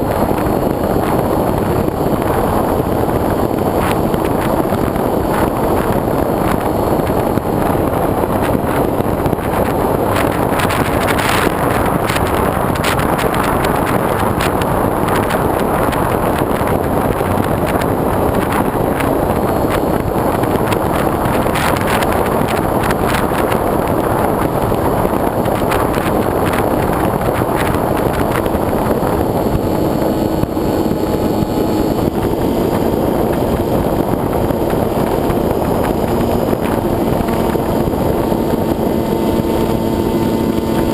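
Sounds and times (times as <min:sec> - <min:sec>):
motor and propeller hum: 0:00.0 - 0:40.9
wind buffeting microphone: 0:00.0 - 0:40.9.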